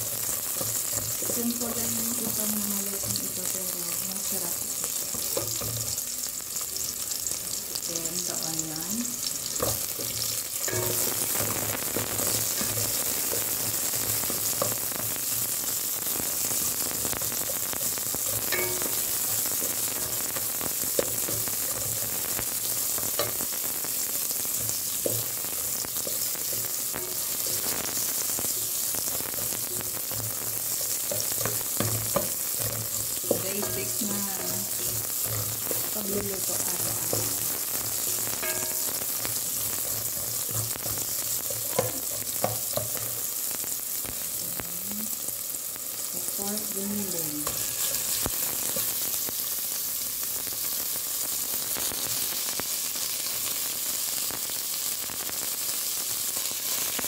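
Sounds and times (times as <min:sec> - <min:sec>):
garlic and onion sizzling in oil: 0:00.0 - 0:57.0.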